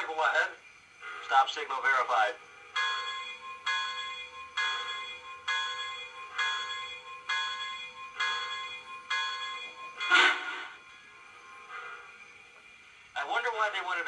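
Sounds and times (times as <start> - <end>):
locomotive bell ringing: 0.0 - 14.0.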